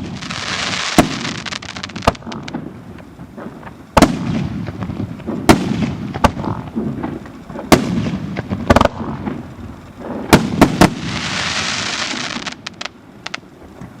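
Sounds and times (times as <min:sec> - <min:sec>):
firework bangs with rumbling echo: 0:00.0 - 0:12.9
firework crackling hiss: 0:00.0 - 0:14.0
small firework pops: 0:00.0 - 0:14.0.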